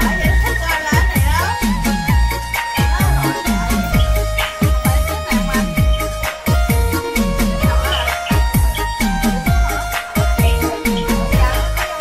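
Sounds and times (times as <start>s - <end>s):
deep bass drum beat: 0.0s - 12.0s
held melody notes: 0.0s - 12.0s.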